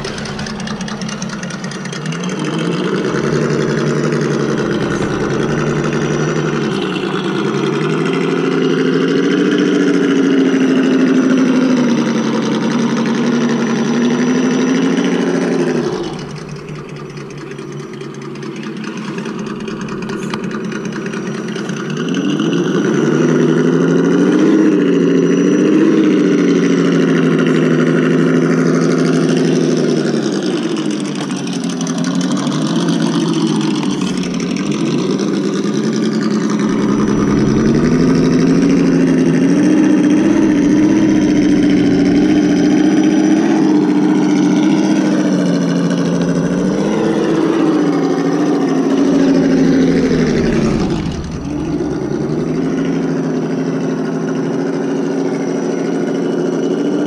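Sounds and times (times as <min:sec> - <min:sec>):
simulated engine revving from speaker: 0:00.0 - 0:26.7, 0:33.3 - 0:54.2.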